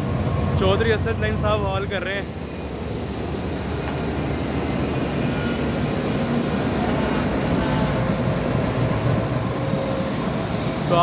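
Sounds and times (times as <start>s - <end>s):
locomotive engine rumbling: 0.0s - 11.0s.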